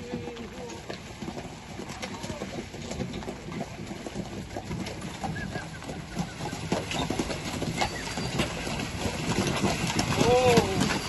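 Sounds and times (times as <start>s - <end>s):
horse hooves clopping on muddy road: 0.0s - 11.0s.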